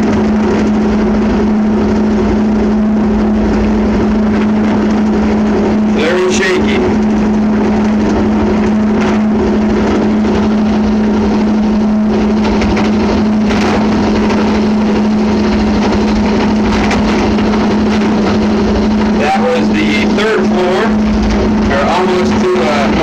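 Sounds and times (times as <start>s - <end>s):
constant rattle: 0.0s - 23.0s
motor hum: 0.0s - 23.0s.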